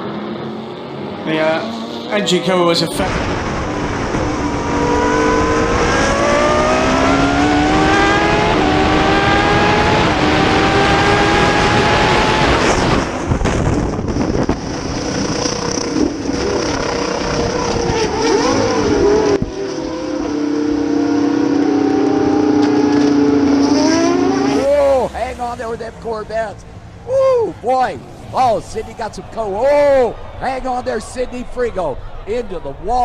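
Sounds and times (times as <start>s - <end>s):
race car engine accelerating: 0.0s - 30.3s.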